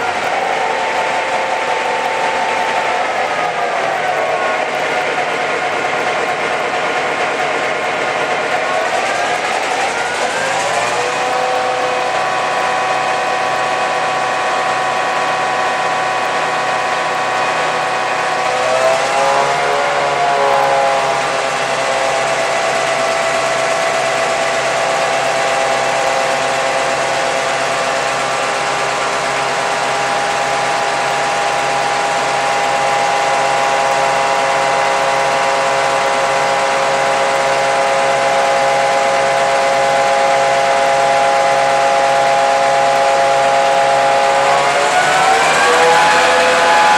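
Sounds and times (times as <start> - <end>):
locomotive diesel engine running: 0.0 - 46.9.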